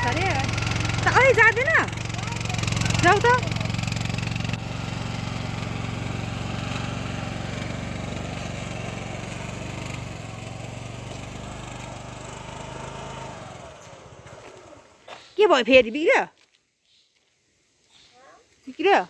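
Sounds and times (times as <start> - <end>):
small motorcycle engine running: 0.0 - 15.3.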